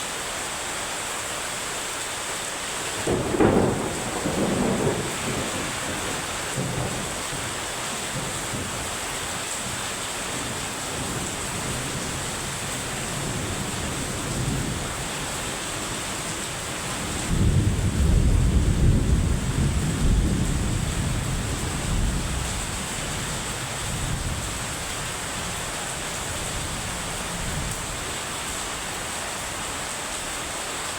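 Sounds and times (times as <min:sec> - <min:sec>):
heavy rain falling: 0:00.0 - 0:30.9
thunder rumbling: 0:03.0 - 0:29.7.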